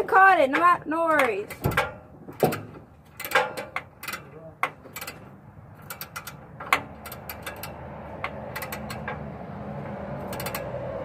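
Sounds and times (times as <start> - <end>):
metallic clicks of hand tools: 1.1 - 9.3, 10.2 - 11.0.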